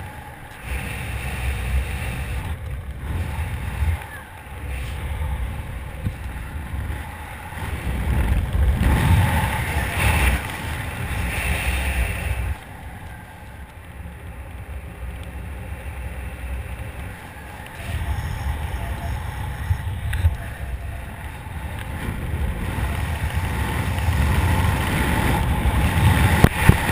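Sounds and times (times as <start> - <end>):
wind buffeting microphone: 0.0 - 26.9.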